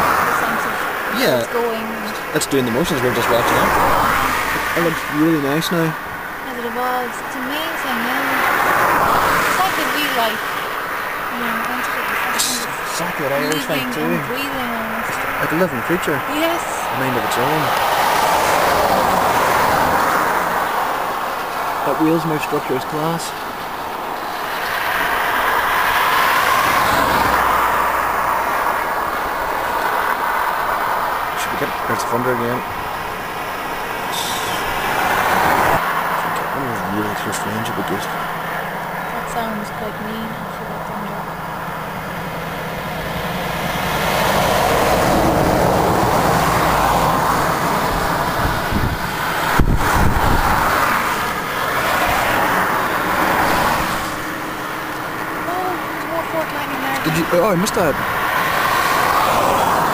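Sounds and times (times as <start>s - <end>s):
road and wind noise in car: 0.0s - 59.9s.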